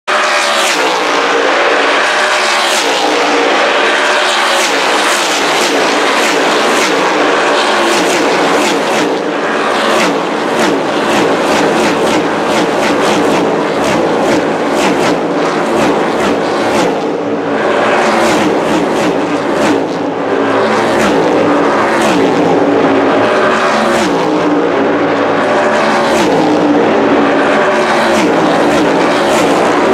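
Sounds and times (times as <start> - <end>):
racing car engines passing at full throttle: 0.1 - 29.9.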